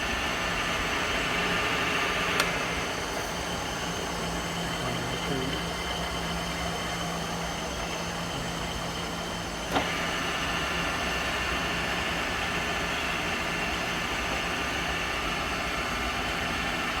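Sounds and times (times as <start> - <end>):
electric motor hum: 0.0 - 16.9.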